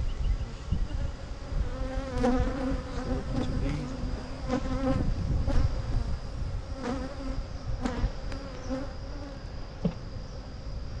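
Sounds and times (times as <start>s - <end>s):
honeybees buzzing: 0.2s - 11.0s.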